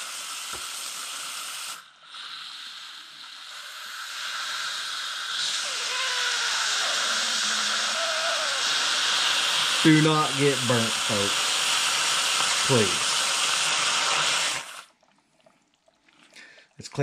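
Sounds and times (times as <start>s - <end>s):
steam valve hissing: 0.0s - 14.8s
liquid spitting: 0.0s - 17.0s.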